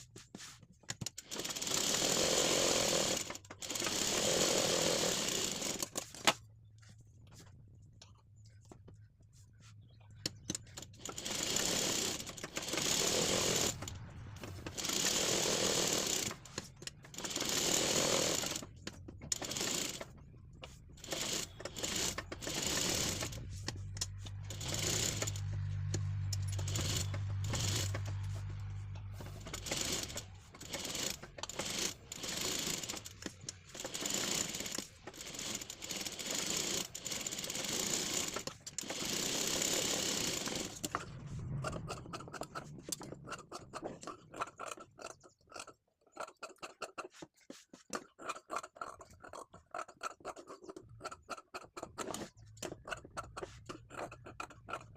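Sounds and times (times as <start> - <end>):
sewing machine stitching: 1.0 - 6.4, 10.4 - 54.9.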